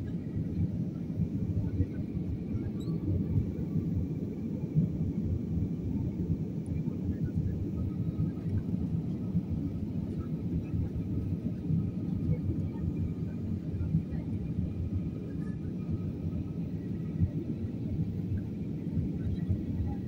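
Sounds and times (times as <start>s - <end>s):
engine and airflow rumble: 0.0s - 20.0s
faint engine whine: 0.0s - 20.0s.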